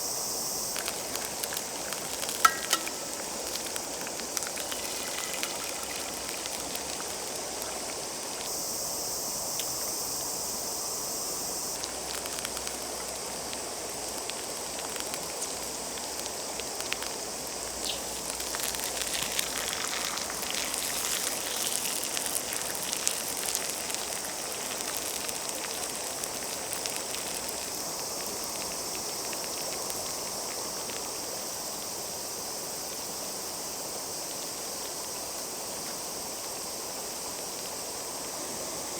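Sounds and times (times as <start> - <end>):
campfire crackles: 0.0 - 38.9
food sizzling in a pan: 0.0 - 38.9.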